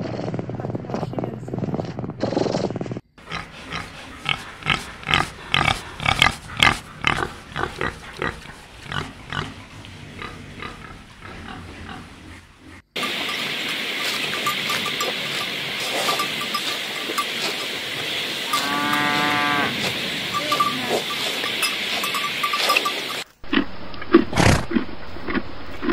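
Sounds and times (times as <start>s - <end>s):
pigs grunting: 2.2s - 25.9s.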